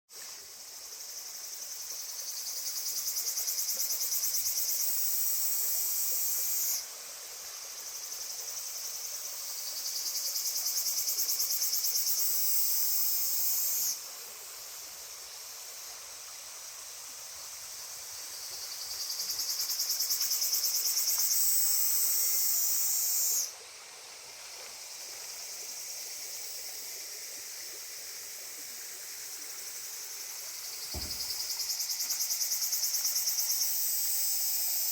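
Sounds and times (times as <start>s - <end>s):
chorus of insects: 0.1s - 34.9s
cicada pulsing buzz: 0.6s - 6.9s, 7.5s - 23.7s, 25.2s - 34.9s.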